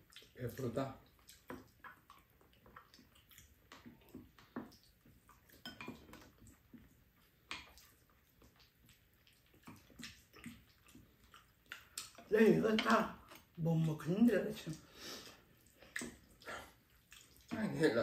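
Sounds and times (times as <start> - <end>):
eating noises: 0.0 - 18.0.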